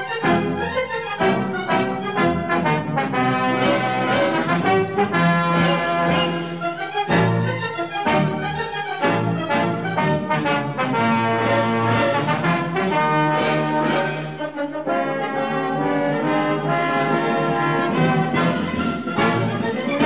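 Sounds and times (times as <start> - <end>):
brass instrumental music: 0.0 - 20.0.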